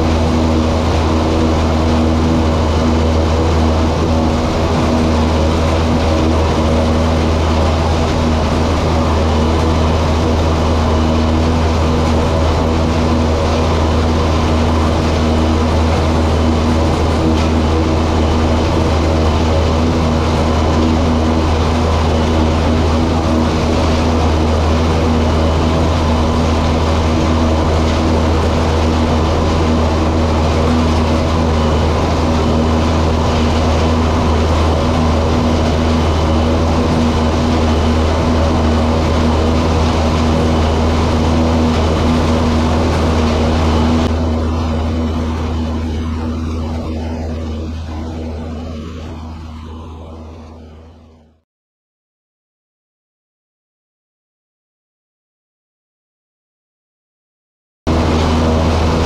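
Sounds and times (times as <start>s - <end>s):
loud mechanical hum: 0.0s - 51.4s, 57.9s - 59.0s.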